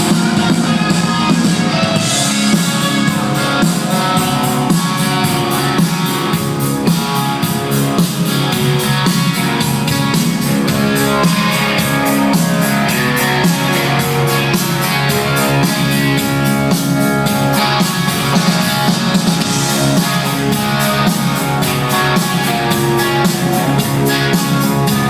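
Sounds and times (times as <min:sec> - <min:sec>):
drum kit steady beat: 0:00.0 - 0:25.0
electric guitar: 0:00.0 - 0:25.0
rock band playing: 0:00.0 - 0:25.0.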